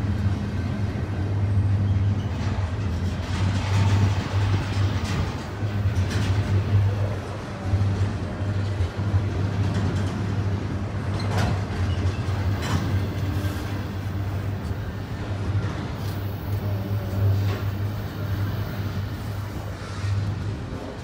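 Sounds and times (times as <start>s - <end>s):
sharp train noises: 0.0s - 21.0s
train wheels rumbling on rail: 0.0s - 21.0s.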